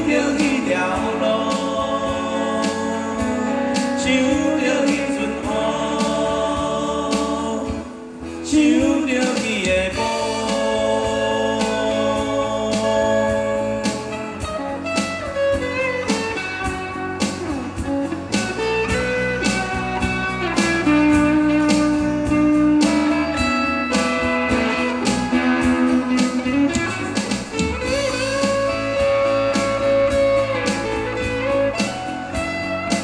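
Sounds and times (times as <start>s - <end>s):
electric guitar lead: 0.0s - 9.0s, 9.8s - 33.0s
electric bass: 0.0s - 33.0s
rhythm guitar: 0.0s - 33.0s.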